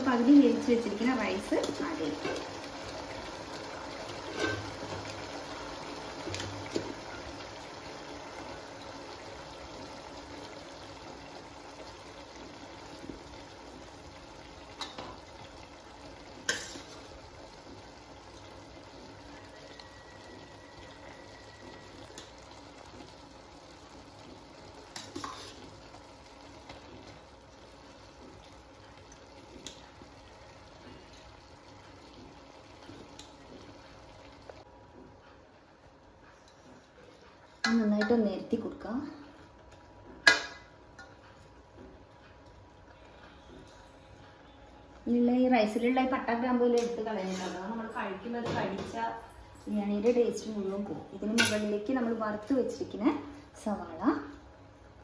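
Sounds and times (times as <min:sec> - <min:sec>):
gravy bubbling in pot: 0:00.0 - 0:55.0.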